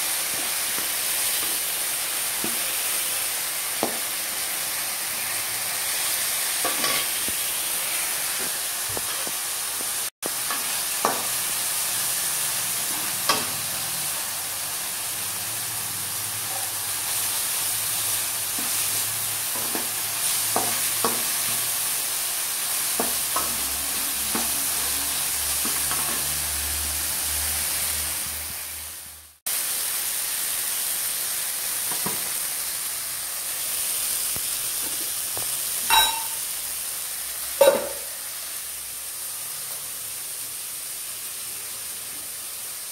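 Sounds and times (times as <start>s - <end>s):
vegetables sizzling in oil: 0.0s - 42.9s.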